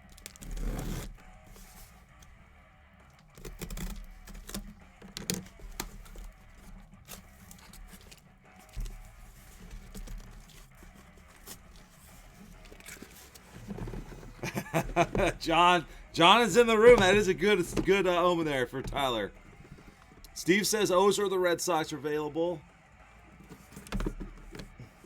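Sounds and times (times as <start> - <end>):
cardboard packaging being handled: 0.0 - 2.4, 3.0 - 20.4, 23.2 - 25.0.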